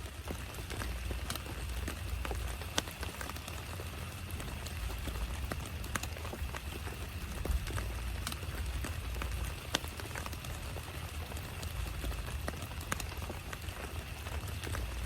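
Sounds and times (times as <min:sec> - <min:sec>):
heavy rain falling: 0:00.0 - 0:15.0
raindrops tapping close by: 0:00.0 - 0:15.0.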